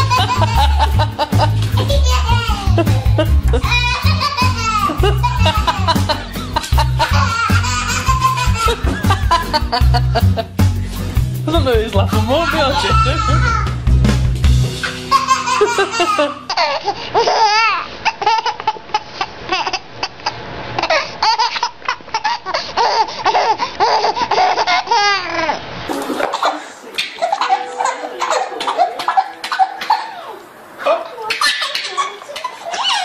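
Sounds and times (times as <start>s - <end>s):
babies laughing: 0.0s - 10.5s, 12.2s - 13.8s, 14.8s - 33.0s.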